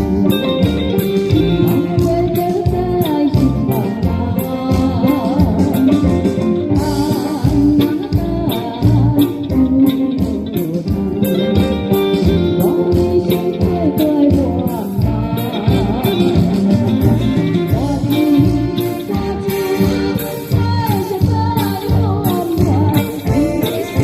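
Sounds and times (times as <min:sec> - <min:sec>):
band music with guitars and drums: 0:00.0 - 0:24.0.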